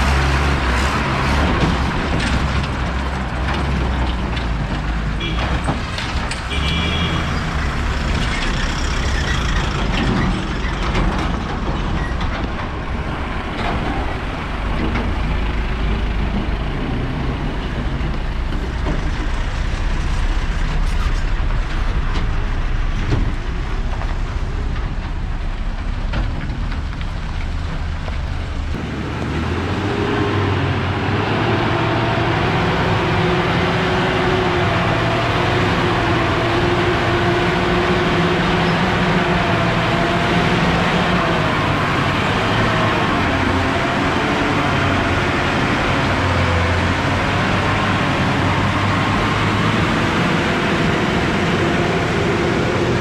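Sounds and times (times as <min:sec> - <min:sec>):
lorry diesel engine droning: 0:00.0 - 0:53.0
lorry engine rumbling: 0:00.0 - 0:53.0.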